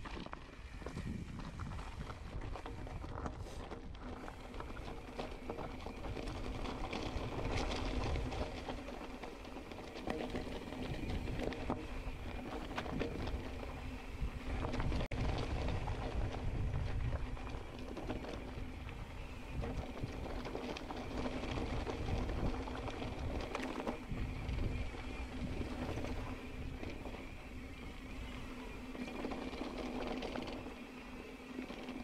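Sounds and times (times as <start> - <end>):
wind on microphone: 0.0 - 8.9, 10.3 - 30.8
bike tyre rumble on dirt: 0.0 - 32.0.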